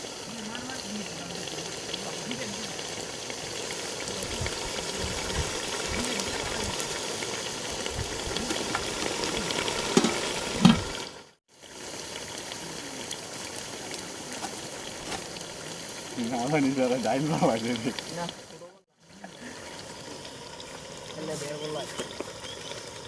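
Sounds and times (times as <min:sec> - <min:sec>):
curry sizzling in a pot: 0:00.0 - 0:23.0.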